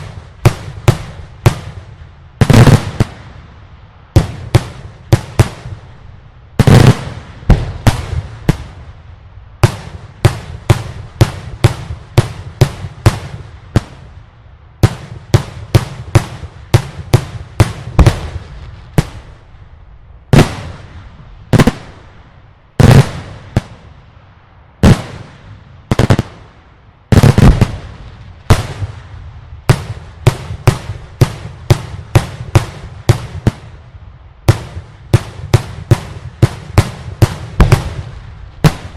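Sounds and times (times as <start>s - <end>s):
heavy firework blasts: 0.0s - 38.9s.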